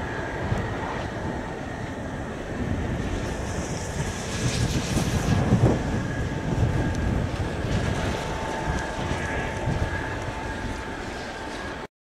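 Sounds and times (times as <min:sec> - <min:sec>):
high jet engine whine: 0:00.0 - 0:11.9
jet engines rumbling: 0:00.0 - 0:11.9
lower jet engine whine: 0:00.0 - 0:11.9.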